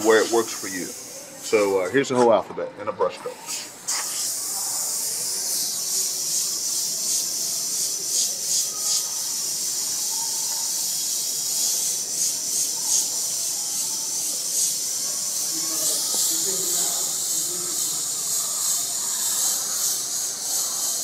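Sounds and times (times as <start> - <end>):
airbrush hissing: 0.0 - 2.3, 3.2 - 21.0.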